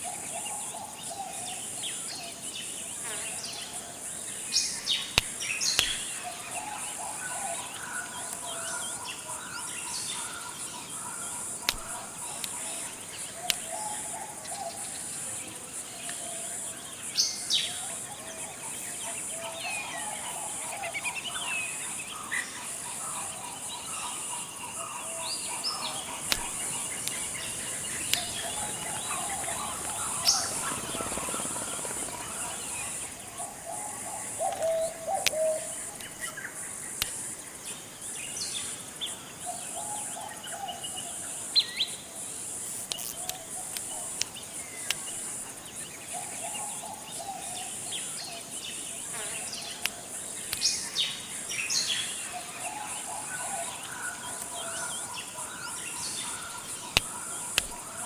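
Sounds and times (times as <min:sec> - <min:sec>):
birds calling and chirping: 0:00.0 - 0:15.2, 0:16.0 - 0:58.0
insect drone: 0:00.0 - 0:58.0.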